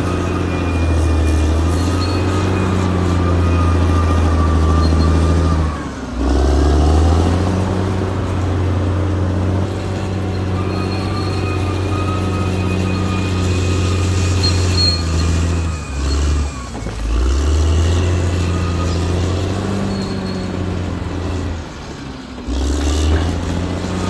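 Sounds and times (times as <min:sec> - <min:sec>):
bulldozer diesel engine under load: 0:00.0 - 0:24.0
high-pitched squealing tones: 0:00.0 - 0:24.0.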